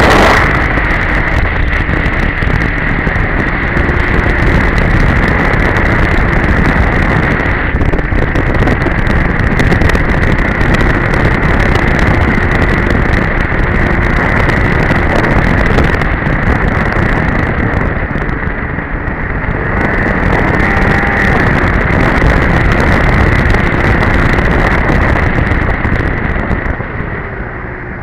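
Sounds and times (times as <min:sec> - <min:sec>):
snowmobile engine droning: 0:00.0 - 0:28.0
wind noise on microphone: 0:00.0 - 0:28.0.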